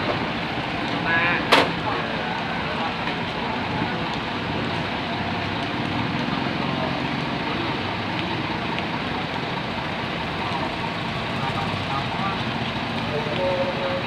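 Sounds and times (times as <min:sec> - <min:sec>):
diesel bus engine running: 0:00.0 - 0:14.0.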